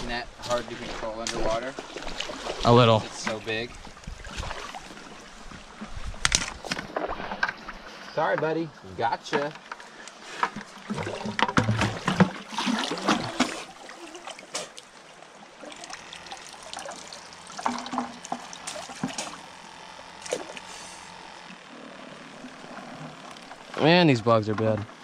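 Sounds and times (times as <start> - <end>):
water splashing and trickling: 0.0 - 8.1, 9.3 - 24.9.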